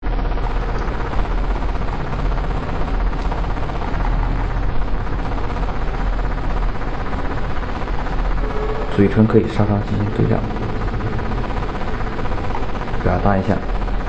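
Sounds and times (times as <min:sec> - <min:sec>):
constant low hum: 0:00.0 - 0:14.0
milling machine spindle cutting: 0:00.5 - 0:14.0.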